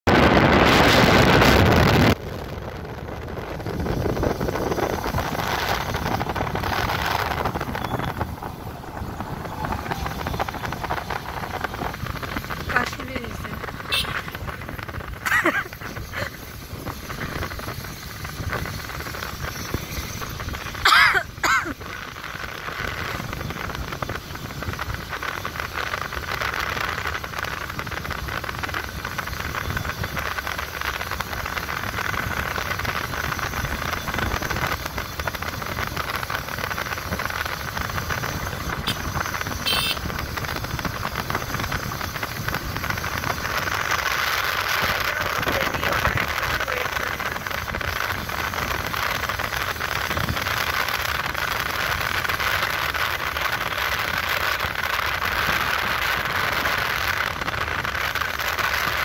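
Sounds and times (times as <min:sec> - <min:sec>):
wind and road noise: 0:00.0 - 0:59.0
motorbike engine running: 0:02.3 - 0:26.3, 0:27.1 - 0:52.4.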